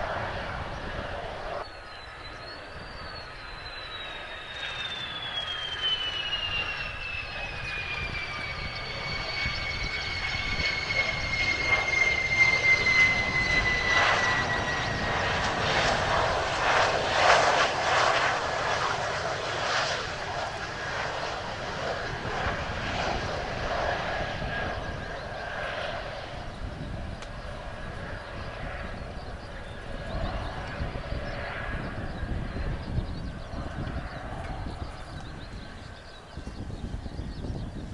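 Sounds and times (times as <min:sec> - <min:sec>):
jet engine whine: 0:00.0 - 0:37.9.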